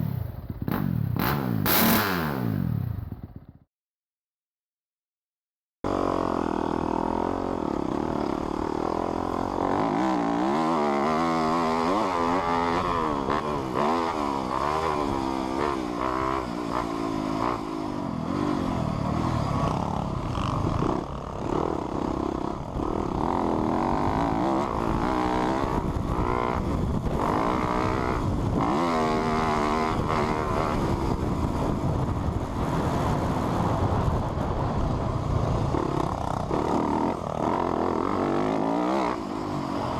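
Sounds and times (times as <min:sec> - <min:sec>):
dirt bike engine revving: 0:00.0 - 0:03.4, 0:05.9 - 0:34.3, 0:34.9 - 0:39.9.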